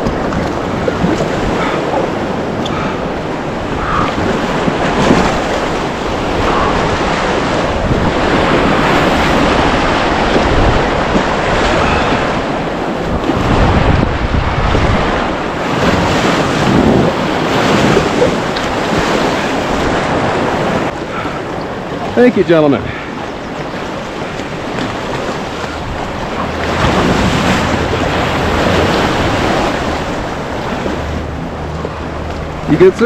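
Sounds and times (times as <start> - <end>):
rushing whitewater river: 0.0 - 33.0
wind buffeting microphone: 0.0 - 33.0.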